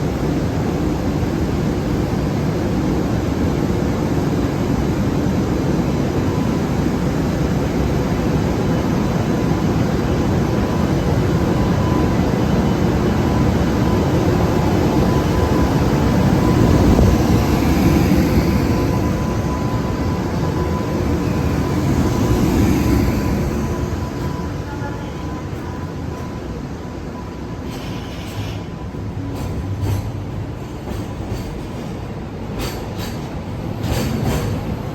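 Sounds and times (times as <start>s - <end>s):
freight train rumble: 0.0s - 34.9s
locomotive whine: 5.0s - 34.9s.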